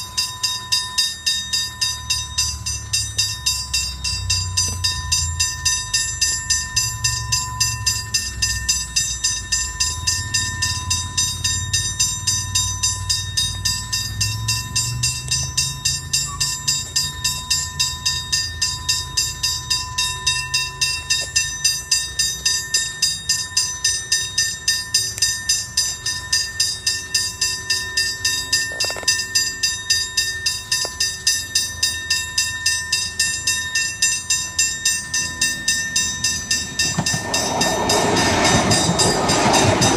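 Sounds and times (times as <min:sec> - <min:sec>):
train low rumble: 0:00.0 - 0:23.8, 0:24.4 - 0:39.9
pulsing high-pitched ringing: 0:00.0 - 0:39.9.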